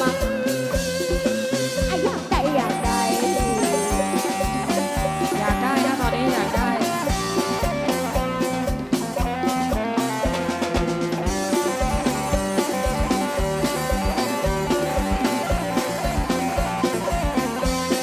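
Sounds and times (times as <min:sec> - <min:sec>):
electric guitar: 0:00.0 - 0:18.0
keyboard lines: 0:00.0 - 0:18.0
steady drum beat: 0:00.0 - 0:18.0.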